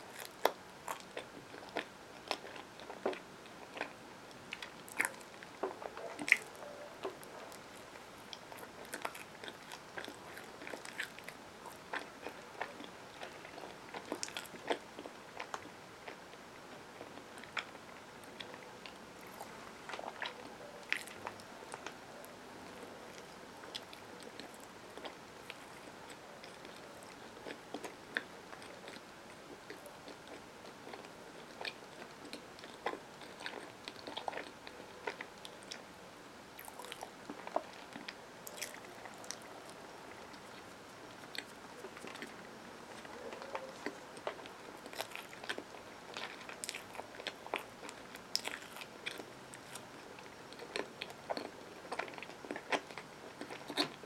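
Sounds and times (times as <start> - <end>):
chewing a sandwich: 0.0 - 54.0.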